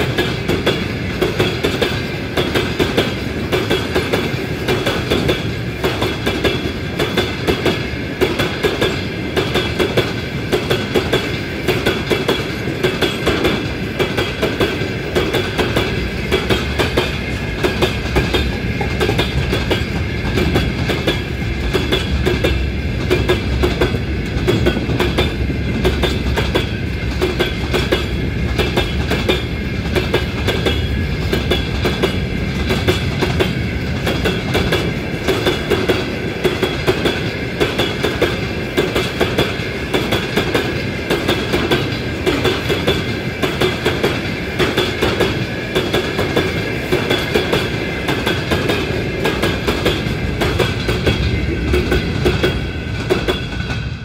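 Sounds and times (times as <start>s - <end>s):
wheels clacking over rail joints: 0.0s - 54.0s.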